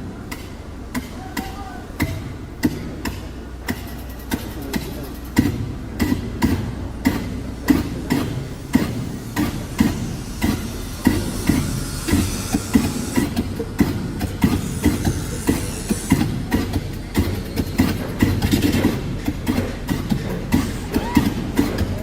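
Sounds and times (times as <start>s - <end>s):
steady low rumble: 0.0s - 22.0s
sharp metallic knocks: 0.3s - 22.0s.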